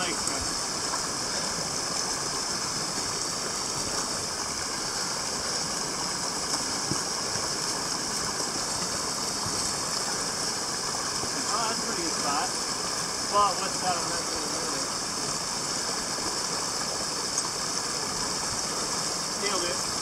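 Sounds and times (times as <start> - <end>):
stream running over stones: 0.0 - 20.0.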